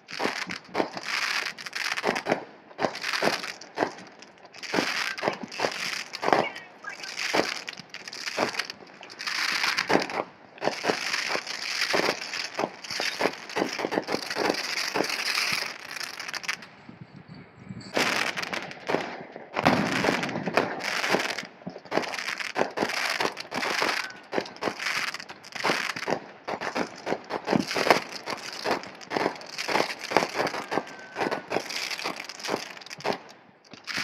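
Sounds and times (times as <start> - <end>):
fireworks popping and crackling: 0.0 - 16.8, 17.9 - 34.0.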